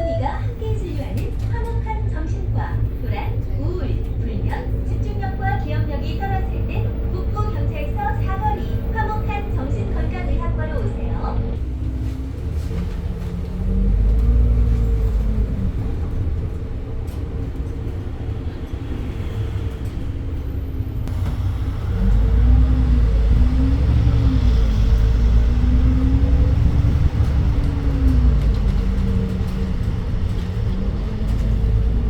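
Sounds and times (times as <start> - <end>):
bus engine pulling from inside: 0.0 - 32.0.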